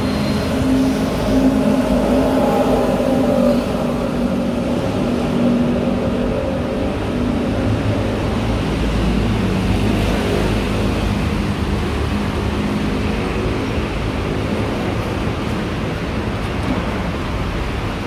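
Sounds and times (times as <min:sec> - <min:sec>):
motor vehicle traffic rumble: 0:00.0 - 0:18.0.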